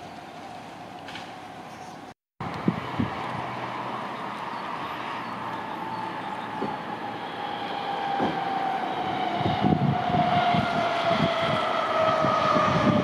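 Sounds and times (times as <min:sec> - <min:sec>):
wheels rumbling and knocking on track: 0:02.4 - 0:13.0.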